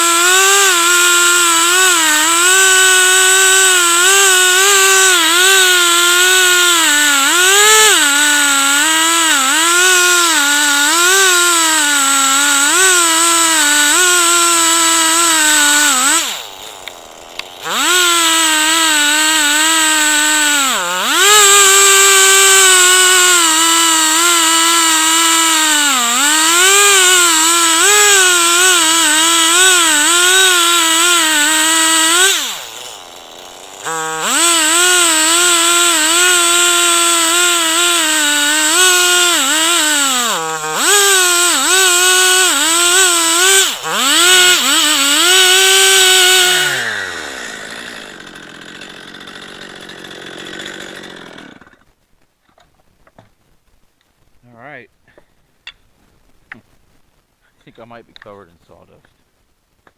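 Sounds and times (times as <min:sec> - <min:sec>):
chainsaw cutting a log: 0:00.0 - 0:52.0.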